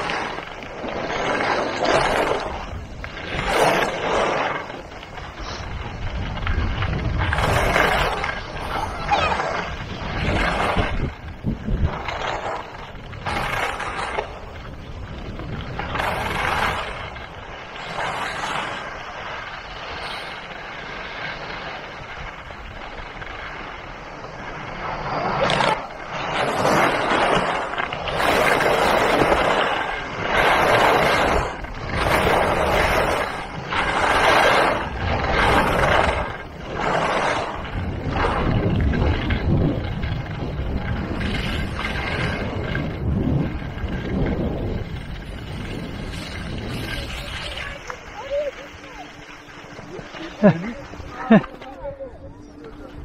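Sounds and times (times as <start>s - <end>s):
skis scraping over snow: 0.0s - 53.0s.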